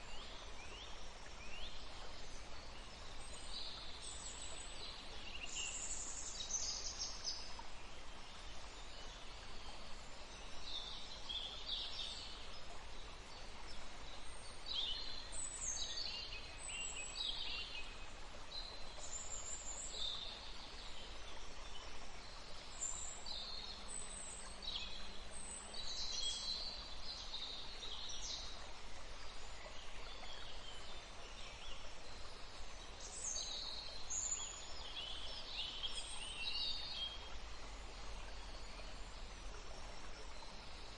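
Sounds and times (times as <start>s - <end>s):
flowing water hiss: 0.0s - 40.9s.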